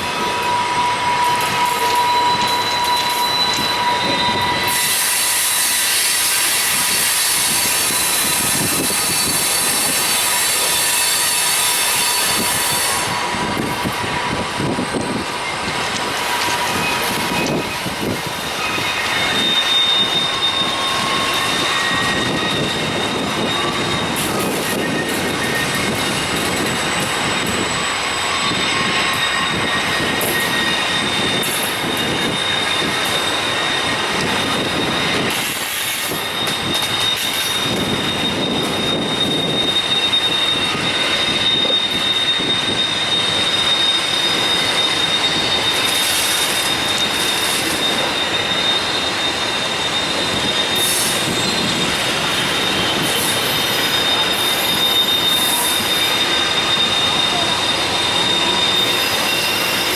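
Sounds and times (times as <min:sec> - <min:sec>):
train wheel squeal: 0:00.0 - 0:59.9
wheels rumbling on rails: 0:00.0 - 0:59.9.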